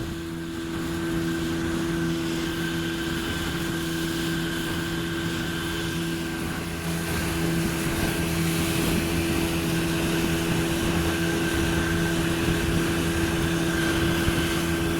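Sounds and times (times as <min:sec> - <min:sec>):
outboard motor running: 0:00.0 - 0:14.9.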